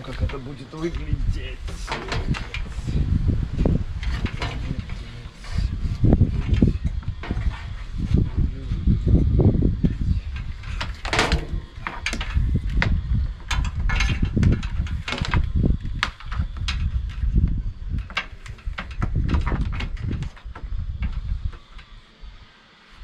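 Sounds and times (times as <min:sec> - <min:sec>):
knocks clicks and scraping: 0:00.0 - 0:09.2, 0:09.8 - 0:22.0.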